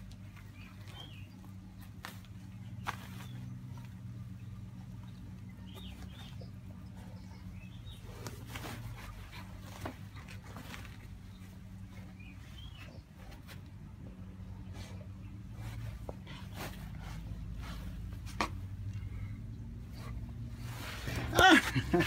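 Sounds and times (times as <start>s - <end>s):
tiger rustling on turf: 0.0s - 14.1s, 14.7s - 22.0s.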